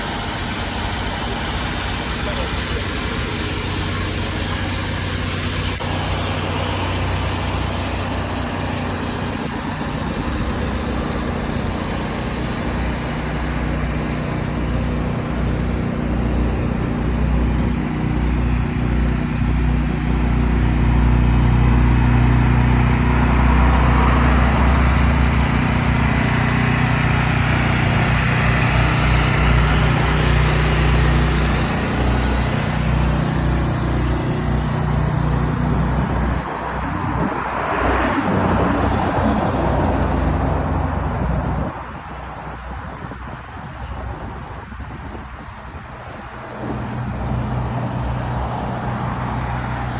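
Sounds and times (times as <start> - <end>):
road and traffic noise: 0.0 - 49.9
truck engine running: 0.0 - 49.9.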